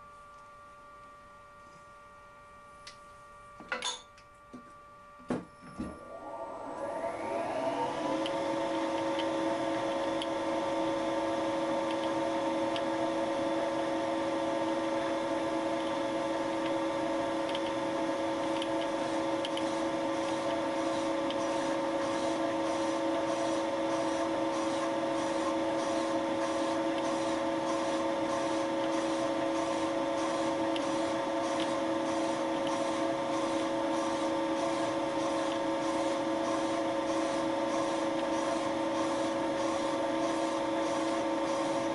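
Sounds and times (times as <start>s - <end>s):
milling machine whine: 2.8s - 41.9s.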